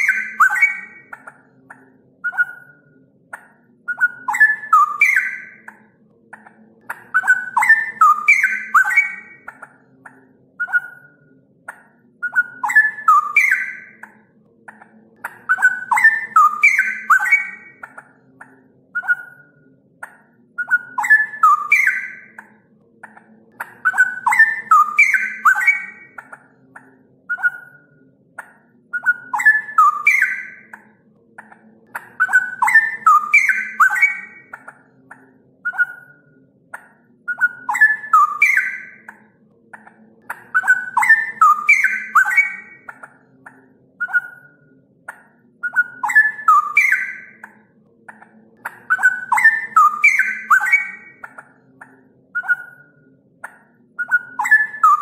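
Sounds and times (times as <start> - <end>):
bird singing bubbling phrases: 0.0 - 44.7, 45.6 - 55.0.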